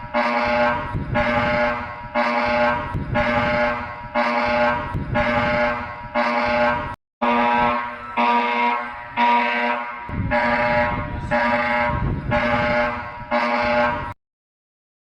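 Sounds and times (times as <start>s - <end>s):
harsh buzzing alarm tone: 0.0s - 14.2s.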